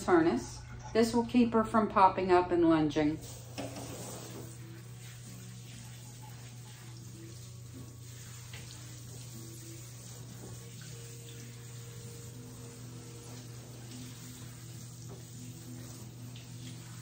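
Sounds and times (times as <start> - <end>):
shower water spraying: 3.2 - 17.0.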